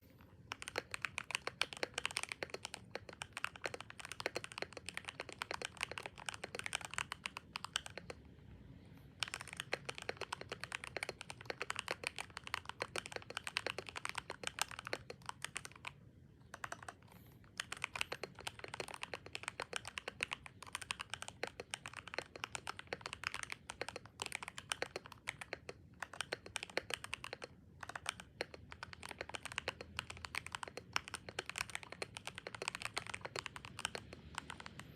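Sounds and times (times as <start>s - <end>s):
mechanical keyboard typing: 0.0s - 8.4s, 9.1s - 34.9s.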